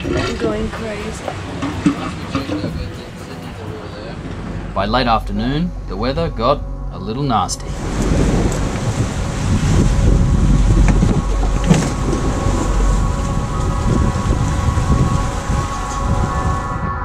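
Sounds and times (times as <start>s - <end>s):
rough sea against a hull: 0.0s - 17.0s
wind buffeting microphone: 0.0s - 17.0s.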